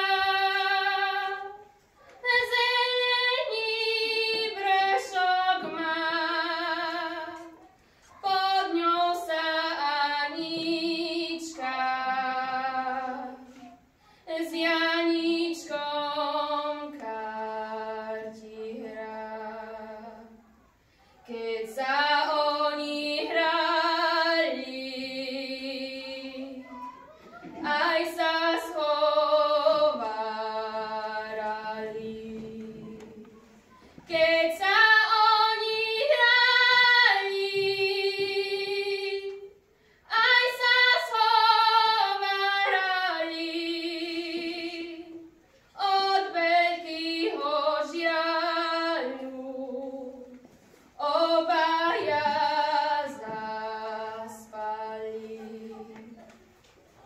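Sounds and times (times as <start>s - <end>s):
girl singing unaccompanied: 0.0s - 57.0s.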